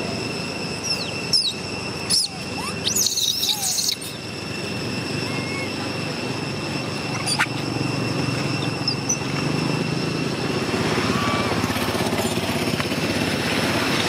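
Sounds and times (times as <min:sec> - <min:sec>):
small engine droning: 0:00.0 - 0:14.0.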